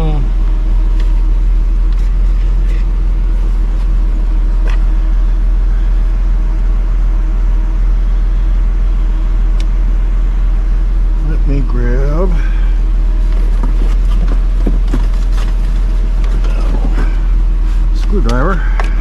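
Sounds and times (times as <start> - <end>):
constant tone: 0.0 - 19.0
steady low hum: 0.0 - 19.0.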